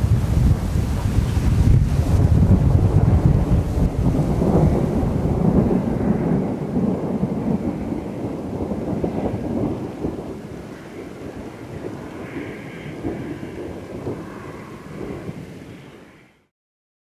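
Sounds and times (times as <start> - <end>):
rolling thunder rumble: 0.0 - 16.4.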